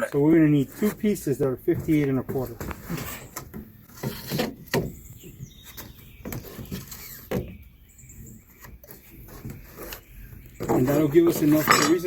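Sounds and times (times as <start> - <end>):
lumber and tools knocking: 0.2 - 7.7, 8.6 - 12.0.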